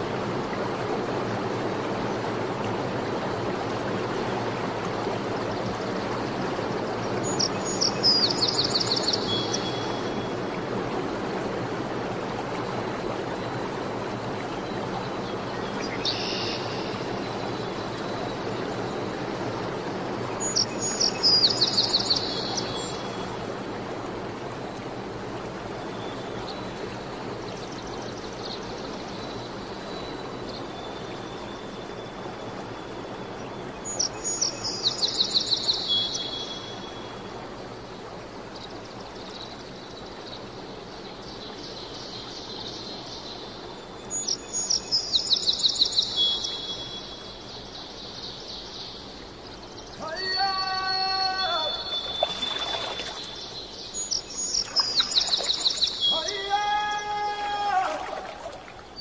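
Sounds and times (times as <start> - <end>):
running water: 0.0 - 59.0
songbird singing: 5.4 - 10.6, 14.4 - 23.6, 24.5 - 59.0.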